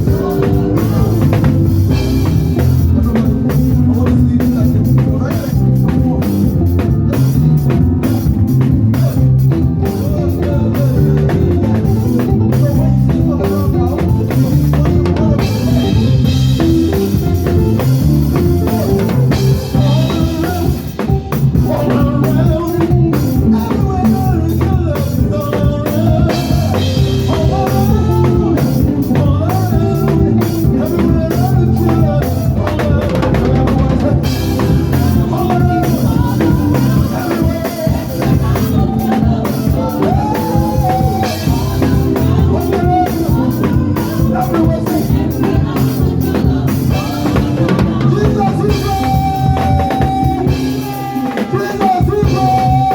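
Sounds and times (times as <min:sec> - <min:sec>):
drum kit beat: 0:00.0 - 0:52.9
heavy bass line: 0:00.0 - 0:52.9.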